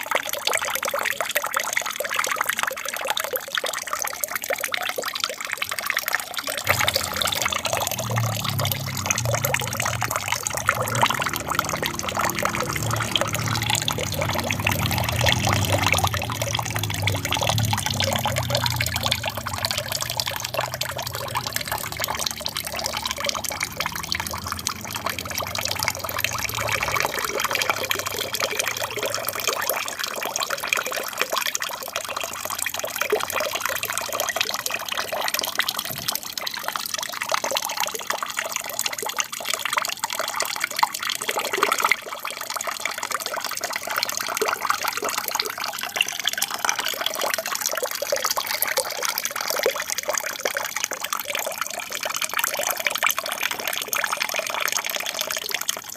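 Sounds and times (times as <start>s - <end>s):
water trickling down small waterfall: 0.0s - 55.9s.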